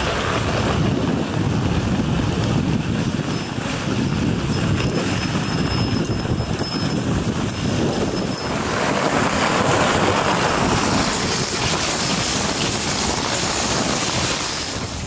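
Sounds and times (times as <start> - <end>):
sled runners gliding on snow: 0.0 - 15.0
wind buffeting microphone: 0.0 - 15.0.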